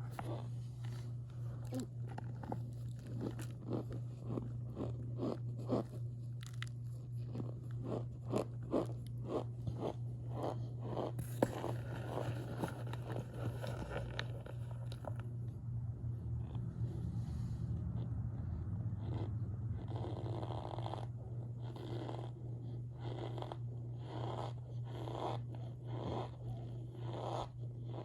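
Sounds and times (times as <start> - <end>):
person chewing with squeaky crunch: 0.0 - 15.3, 19.2 - 28.0
steady low hum: 0.0 - 28.0.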